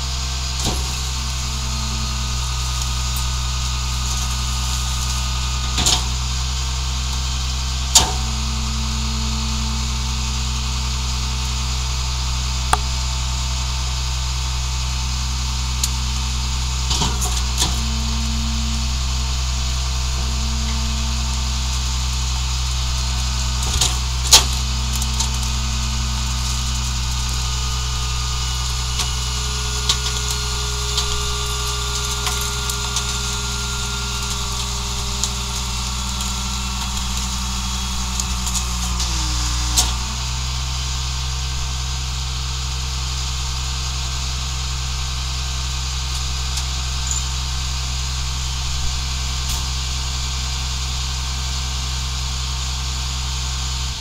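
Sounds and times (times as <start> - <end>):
hydraulic whine: 0.0 - 54.0
truck engine idling: 0.0 - 54.0.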